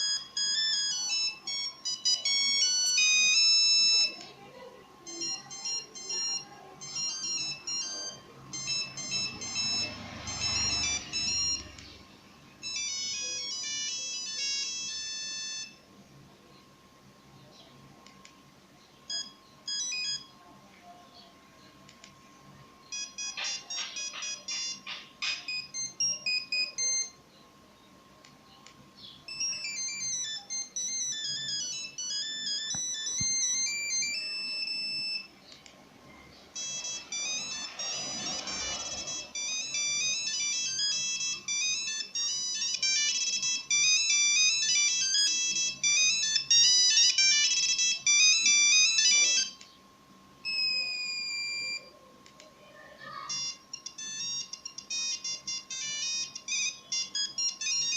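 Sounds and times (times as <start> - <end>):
monophonic ringtone beeping melodies: 0.0 - 16.0, 19.0 - 21.0, 22.8 - 27.3, 29.0 - 49.7, 50.4 - 52.1, 53.0 - 57.9.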